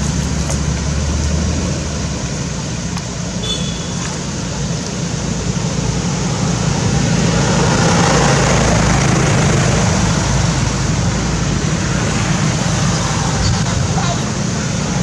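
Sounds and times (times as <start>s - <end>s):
road traffic noise: 0.0s - 15.0s
vehicle low hum: 0.0s - 15.0s.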